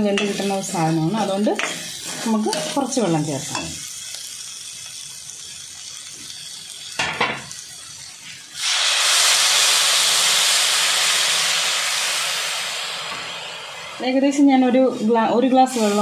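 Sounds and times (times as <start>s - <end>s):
water sizzling in hot oil: 0.0s - 16.0s.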